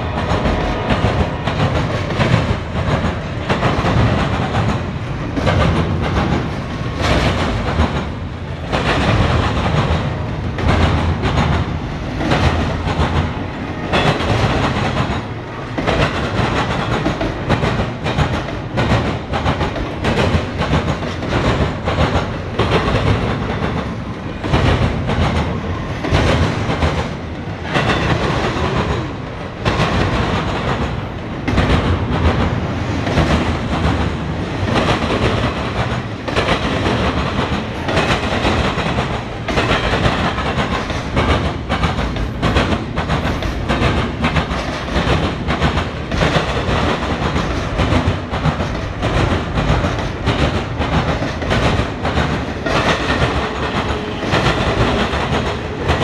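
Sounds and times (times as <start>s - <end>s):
steel wheels rolling on rail: 0.0s - 56.0s
wheels clacking over rail joints: 0.0s - 56.0s.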